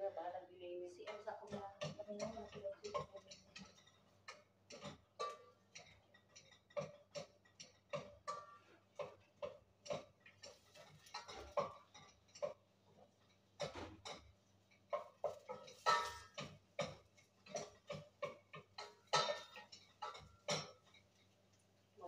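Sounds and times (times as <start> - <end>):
wooden spatula knocking on pot: 1.0 - 12.7, 13.6 - 21.1
onions frying in oil: 1.1 - 22.0.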